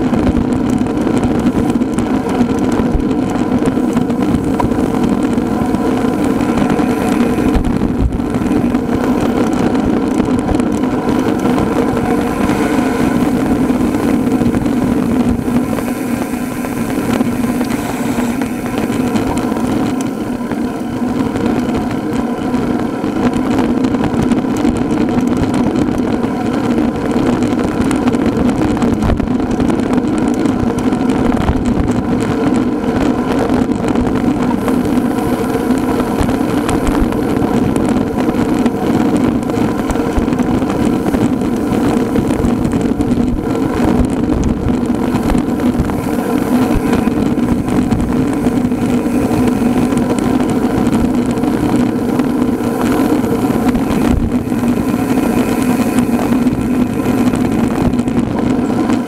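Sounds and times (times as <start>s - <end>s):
vehicle engine running steadily: 0.0s - 59.0s.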